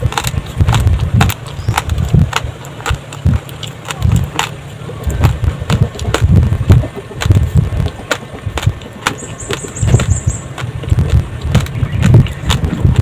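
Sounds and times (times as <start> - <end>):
chewing thuds: 0.0 - 13.0.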